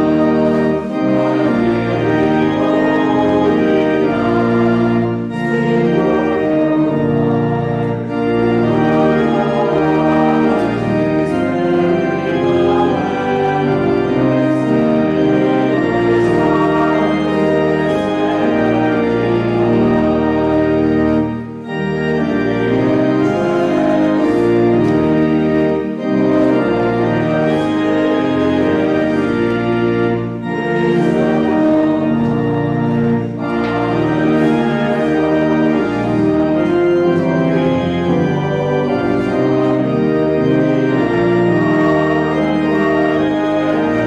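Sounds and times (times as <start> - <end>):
church organ playing chords: 0.0 - 44.0.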